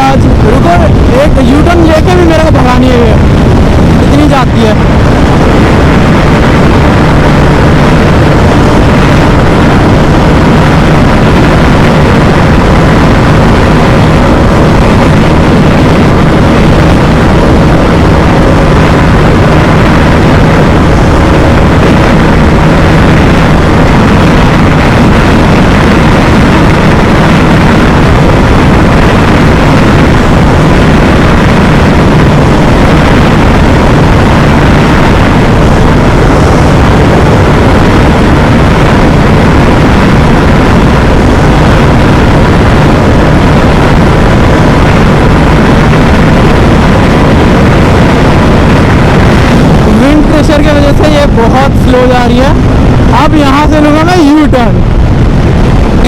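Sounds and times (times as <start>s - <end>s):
motorcycle engine at high revs: 0.0s - 54.0s
wind and road noise: 0.0s - 56.0s.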